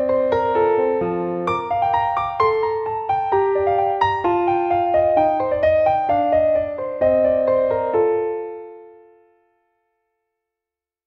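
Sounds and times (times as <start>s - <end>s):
piano music: 0.0s - 9.7s.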